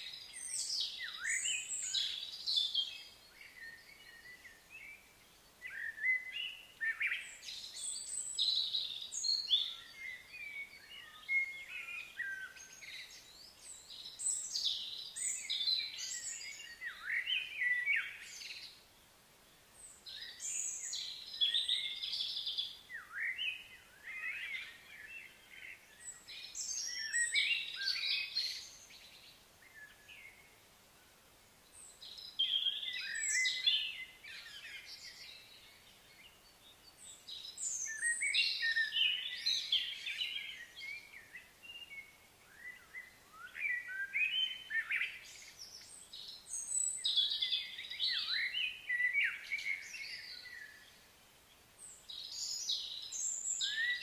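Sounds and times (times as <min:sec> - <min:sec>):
birds chirping and singing: 0:00.0 - 0:18.8, 0:19.8 - 0:30.5, 0:31.8 - 0:51.1, 0:51.8 - 0:54.0.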